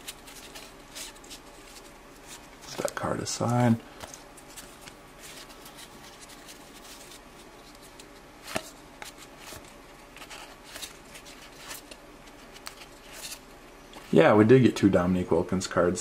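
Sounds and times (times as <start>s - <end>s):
cards rustling and clicking: 0.0s - 14.2s.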